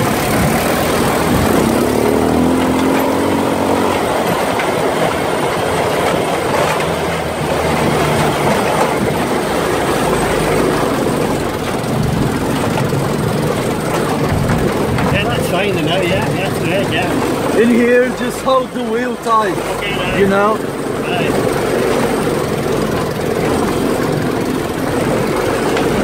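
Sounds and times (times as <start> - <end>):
buggy engine running: 0.0 - 26.0
frame and wheels rattling: 0.0 - 26.0.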